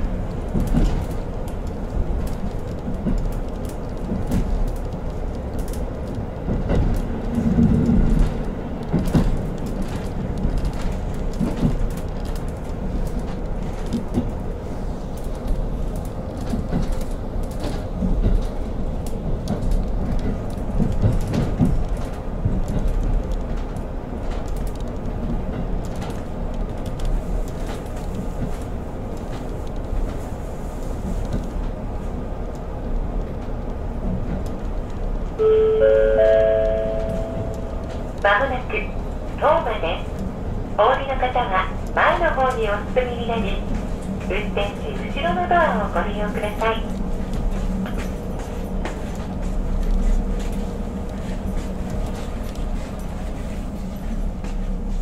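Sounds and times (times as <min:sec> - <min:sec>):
wheels rumbling on rails: 0:00.0 - 0:55.0.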